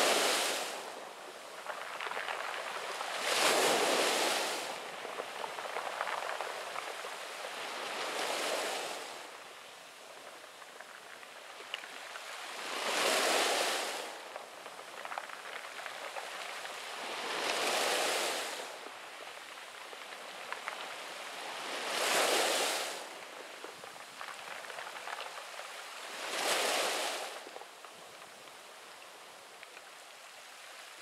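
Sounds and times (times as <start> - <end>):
sea waves breaking on pebbles: 0.0 - 9.7, 10.4 - 31.0.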